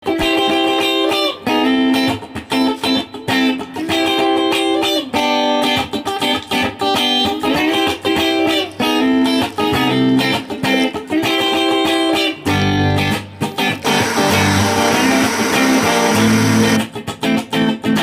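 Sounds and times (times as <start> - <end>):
plucked guitar melody: 0.0 - 18.0.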